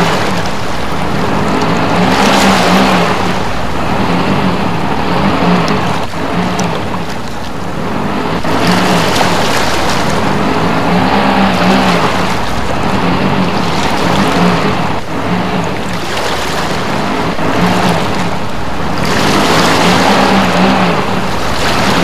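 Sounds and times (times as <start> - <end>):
car engine drone: 0.0 - 22.0
wheels churning mud and water: 0.0 - 22.0.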